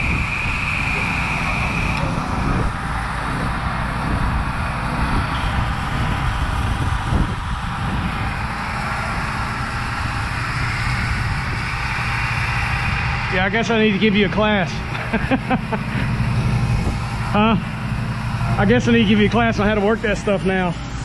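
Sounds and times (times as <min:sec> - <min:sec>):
high steady whine: 0:00.0 - 0:21.0
pressure washer engine drone: 0:00.0 - 0:21.0
spraying water hiss: 0:00.0 - 0:21.0.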